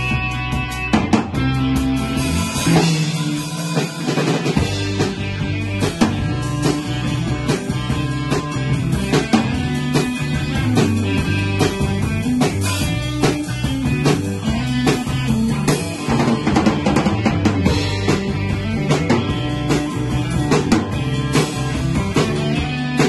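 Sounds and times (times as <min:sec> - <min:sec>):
drum kit beat: 0:00.0 - 0:23.0
rock band playing live: 0:00.0 - 0:23.0.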